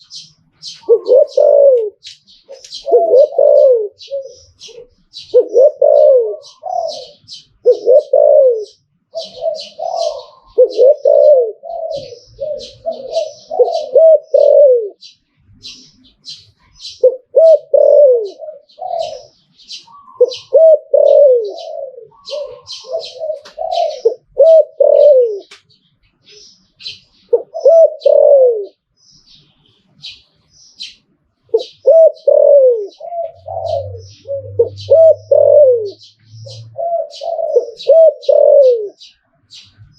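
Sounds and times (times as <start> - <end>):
dove cooing: 0.0 - 25.6, 26.2 - 28.9, 31.5 - 39.3.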